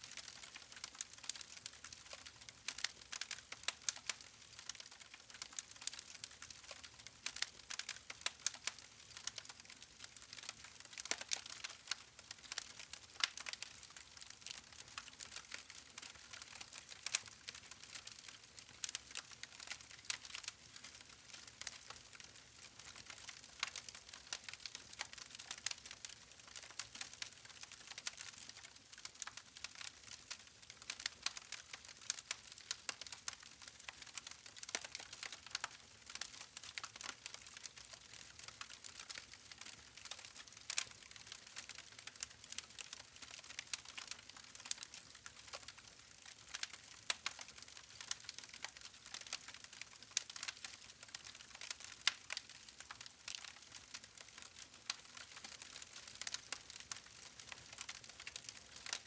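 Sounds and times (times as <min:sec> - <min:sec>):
campfire crackling and popping: 0:00.2 - 0:59.0.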